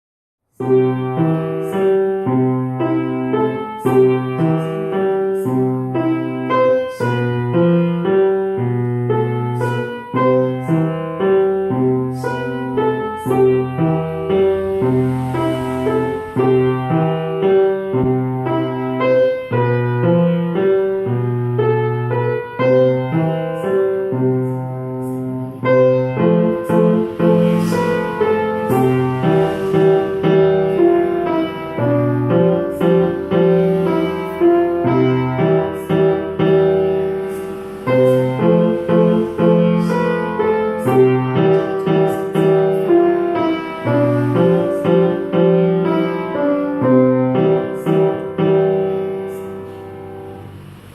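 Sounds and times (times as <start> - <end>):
solo piano piece: 0.4 - 50.9.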